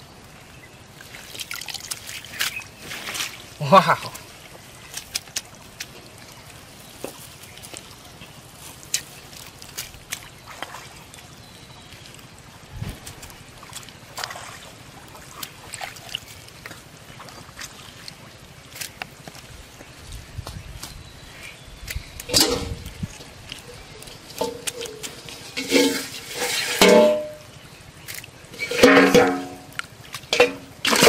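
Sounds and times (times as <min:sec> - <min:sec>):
faint water trickle: 0:00.0 - 0:30.9
wet weeds and netting rustling: 0:00.3 - 0:31.0.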